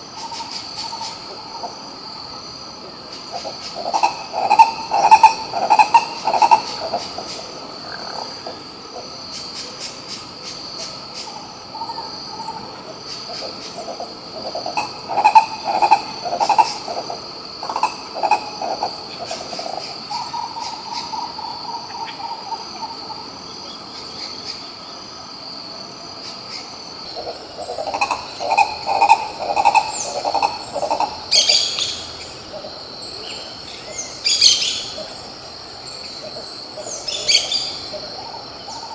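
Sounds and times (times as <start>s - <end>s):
ibis calling: 0.0s - 2.2s, 2.8s - 24.7s, 26.2s - 38.9s
high insect drone: 0.0s - 38.9s.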